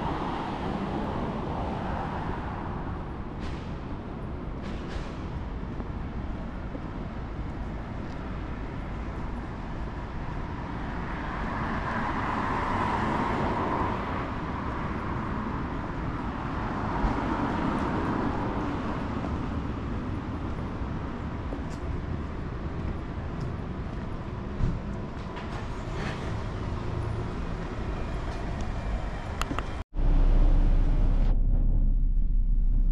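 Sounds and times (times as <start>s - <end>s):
traffic rumble: 0.0s - 32.9s.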